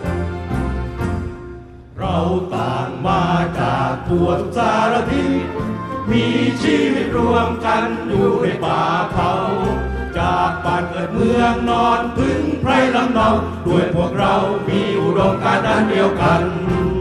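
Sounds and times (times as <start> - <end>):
instrumental backing: 0.0 - 17.0
group singing in chorus: 2.0 - 17.0.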